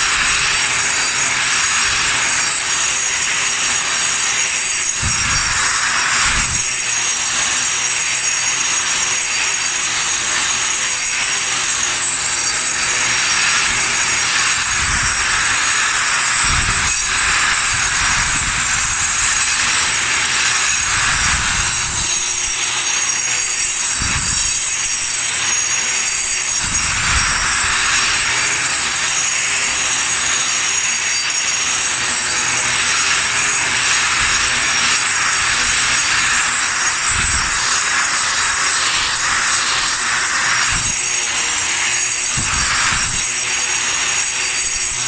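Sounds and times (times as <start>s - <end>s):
grinder grinding concrete: 0.0s - 45.0s.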